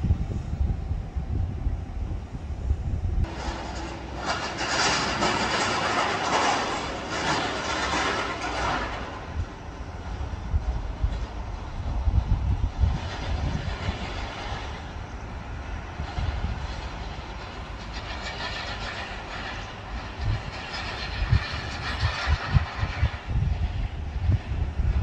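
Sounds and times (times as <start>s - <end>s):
jet engine hiss: 0.0s - 25.0s
low rumbling: 0.0s - 25.0s.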